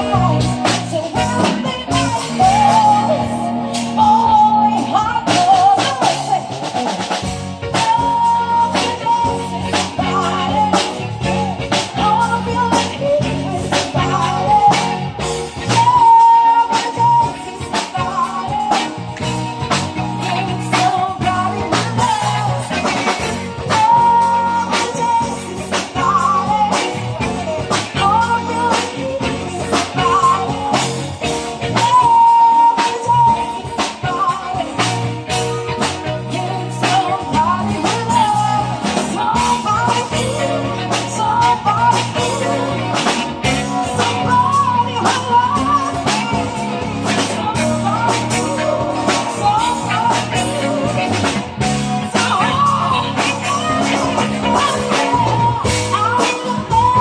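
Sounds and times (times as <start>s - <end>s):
drum kit beat: 0.0s - 57.0s
electric guitar: 0.0s - 57.0s
keyboard: 0.0s - 57.0s
women singing: 0.0s - 57.0s.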